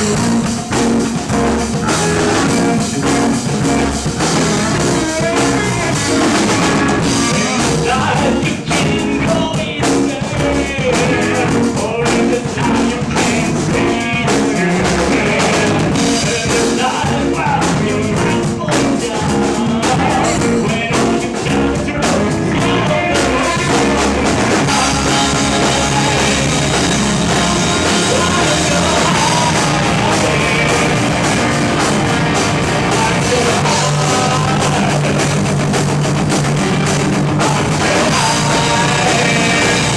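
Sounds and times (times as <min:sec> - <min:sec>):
drum kit: 0:00.0 - 0:39.9
person singing: 0:00.0 - 0:39.9
rock band playing live: 0:00.0 - 0:39.9.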